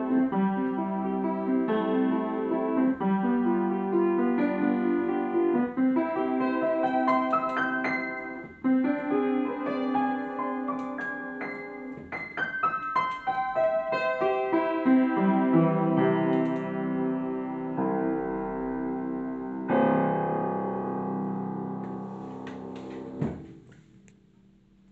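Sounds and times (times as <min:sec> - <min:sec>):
piano playing: 0:00.0 - 0:23.6.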